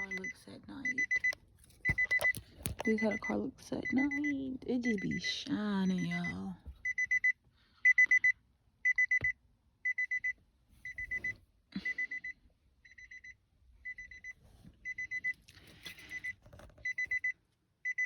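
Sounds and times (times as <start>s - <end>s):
car door warning beeps: 0.0s - 4.3s, 5.9s - 15.4s, 16.0s - 18.0s.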